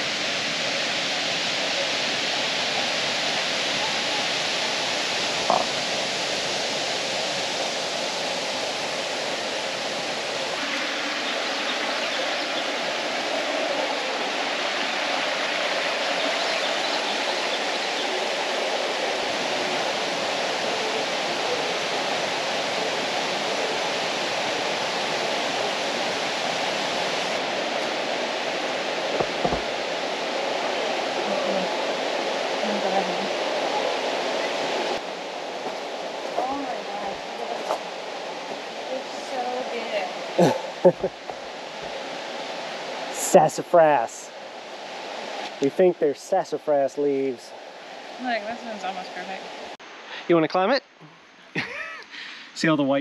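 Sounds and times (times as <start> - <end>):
waterfall rushing: 0.0 - 50.8.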